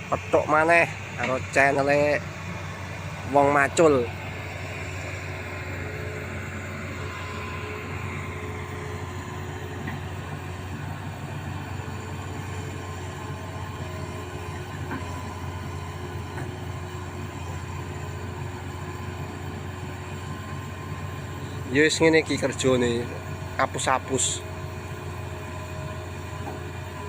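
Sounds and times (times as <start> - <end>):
diesel engine droning: 0.0 - 27.0.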